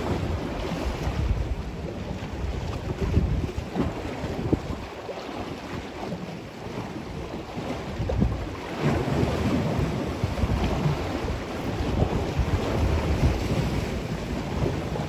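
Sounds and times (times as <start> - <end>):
waves lapping and splashing: 0.0 - 15.0
wind buffeting microphone: 0.0 - 15.0.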